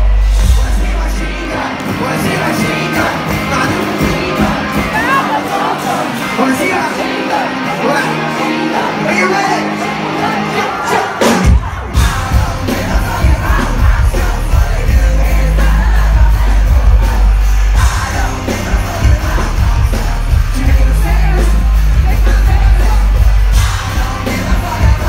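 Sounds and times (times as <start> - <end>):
crowd yelling: 0.0 - 25.0
live rock band playing: 0.0 - 25.0.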